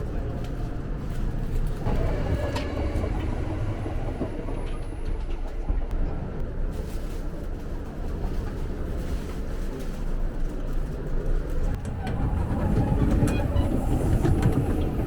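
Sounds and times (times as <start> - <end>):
train rumble heard on board: 0.0 - 15.0.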